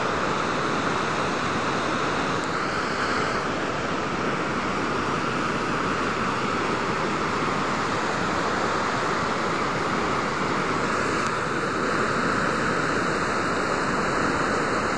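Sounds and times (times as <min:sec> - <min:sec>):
river water rushing over rocks: 0:00.0 - 0:14.9.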